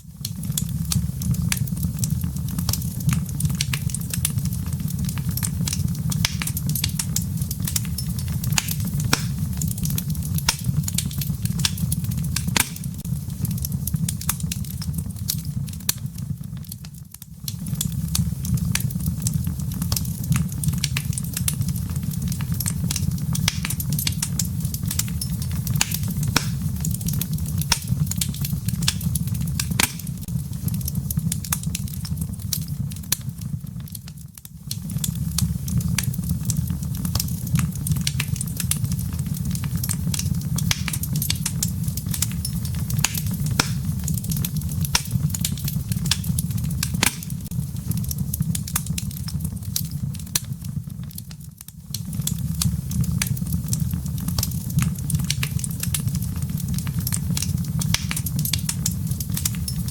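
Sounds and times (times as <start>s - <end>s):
firewood crackling and popping: 0.0s - 59.9s
low rumble of flames: 0.0s - 59.9s.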